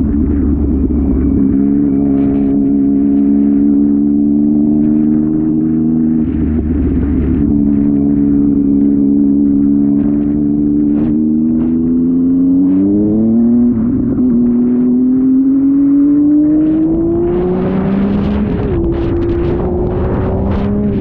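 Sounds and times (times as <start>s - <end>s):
motorcycle engine: 0.0s - 21.0s
wind buffeting microphone: 0.0s - 21.0s.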